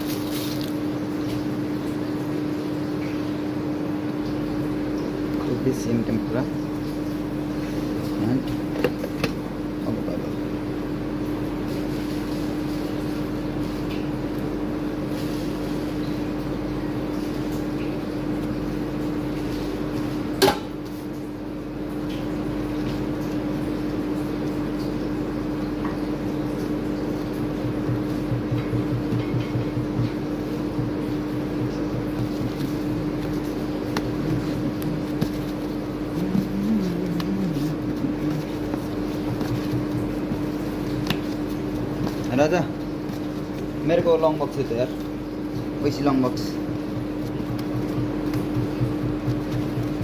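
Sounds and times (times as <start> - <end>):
appliance humming: 0.0 - 50.0.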